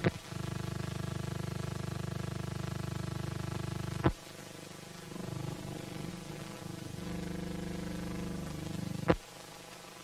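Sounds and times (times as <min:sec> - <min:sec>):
film soundtrack hiss: 0:00.0 - 0:10.0.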